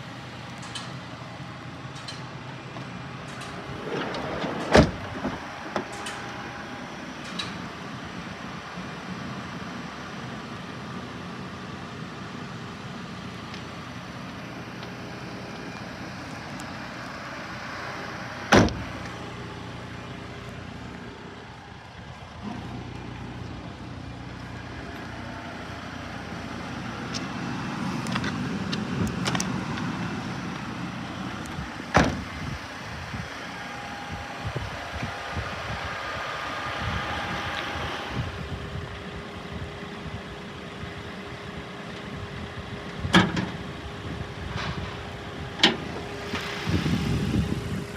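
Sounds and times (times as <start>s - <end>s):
car engine idling: 0.0s - 4.0s, 4.7s - 47.9s.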